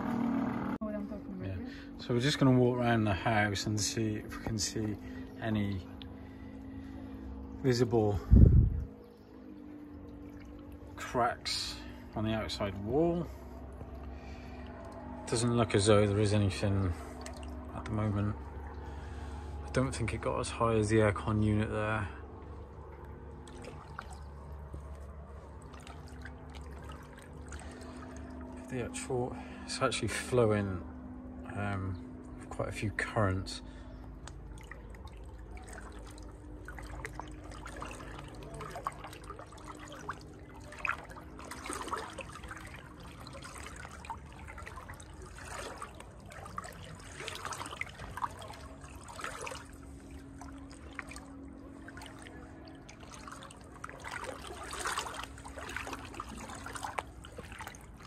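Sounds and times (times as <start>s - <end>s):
water trickling and flowing: 0.8s - 58.0s
water splashes and drips: 1.6s - 58.0s.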